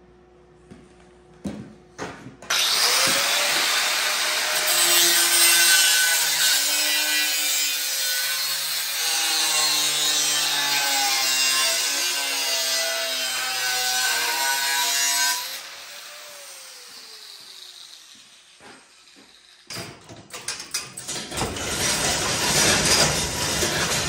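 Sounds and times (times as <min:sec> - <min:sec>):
angle grinder grinding metal: 0:02.5 - 0:19.7, 0:21.0 - 0:24.0.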